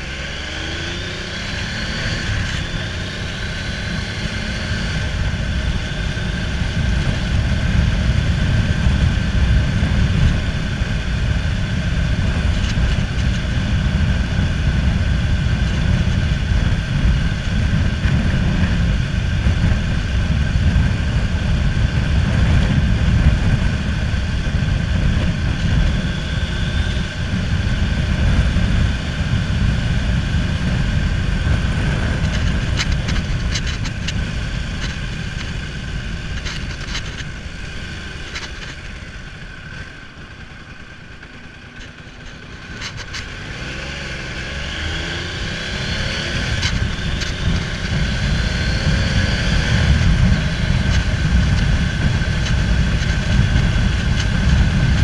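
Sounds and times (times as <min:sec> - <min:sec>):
wind rush: 0:00.0 - 0:39.8, 0:42.5 - 0:55.0
motorcycle engine accelerating: 0:00.0 - 0:55.0.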